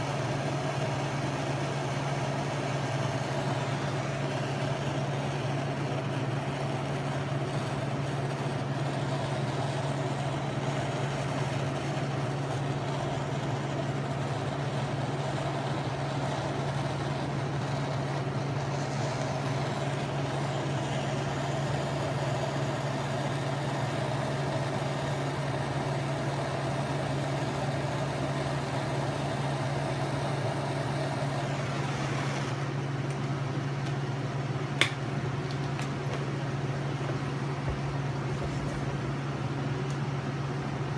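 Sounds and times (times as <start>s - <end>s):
shop machinery humming: 0.0s - 40.9s.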